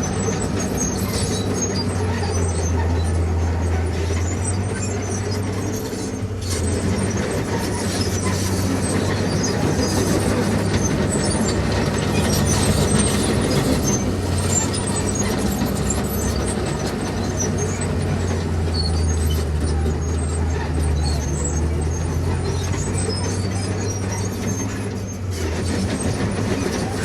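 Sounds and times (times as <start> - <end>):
bulldozer diesel engine humming: 0.0 - 27.0.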